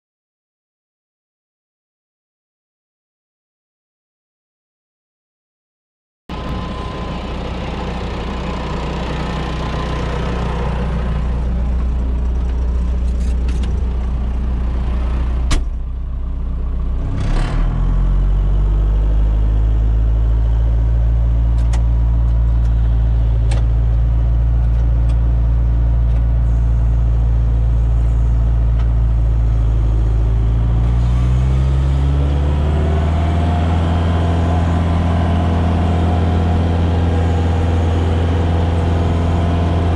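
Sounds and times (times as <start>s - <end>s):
tractor diesel engine running: 6.3s - 17.2s, 17.8s - 39.9s.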